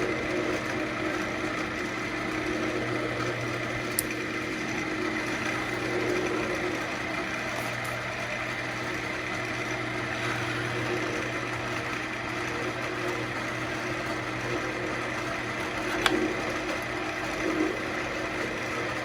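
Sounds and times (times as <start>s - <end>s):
turning tool cutting wood: 0.0s - 19.0s
wood lathe humming: 0.0s - 19.0s.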